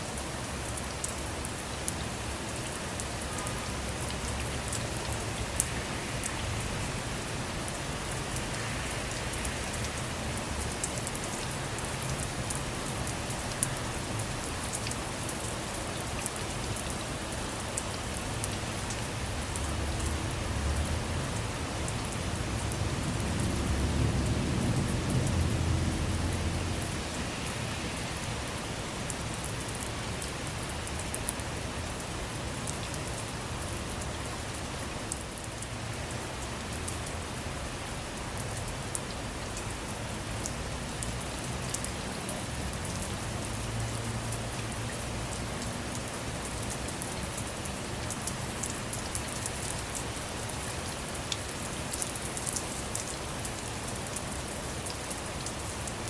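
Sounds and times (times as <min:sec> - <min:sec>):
rain heard from inside a car: 0:00.0 - 0:56.0.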